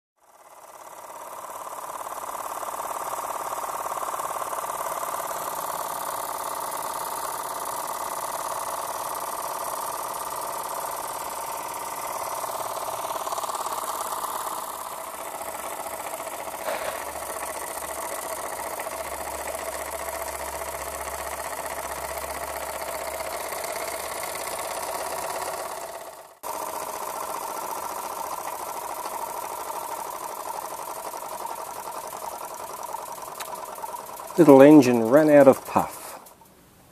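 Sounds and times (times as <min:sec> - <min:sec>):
toy steam engine chuffing: 0:00.2 - 0:36.5.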